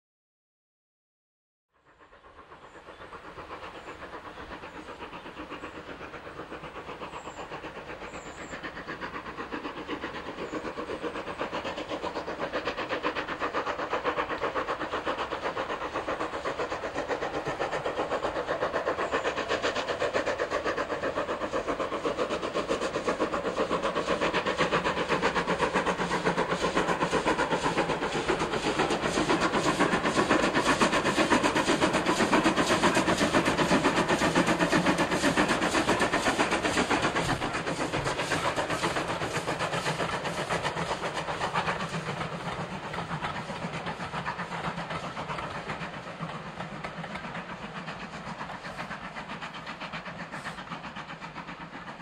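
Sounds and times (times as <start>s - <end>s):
steam locomotive exhaust beats: 1.7s - 52.0s.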